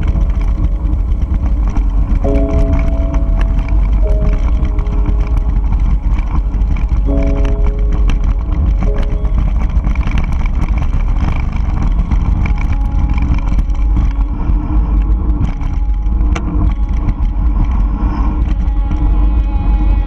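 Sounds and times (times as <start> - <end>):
bike rattles and clicks: 0.0 - 20.0
bike tyre noise: 0.0 - 20.0
wind buffeting microphone: 0.0 - 20.0.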